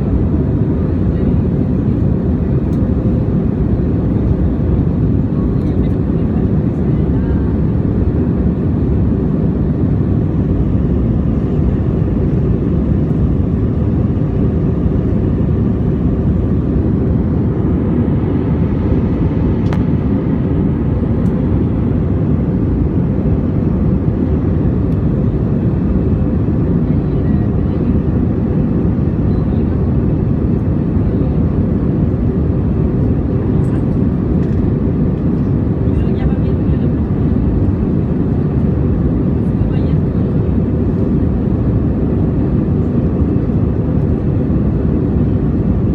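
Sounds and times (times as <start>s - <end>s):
jet engines and airflow rushing: 0.0s - 45.9s.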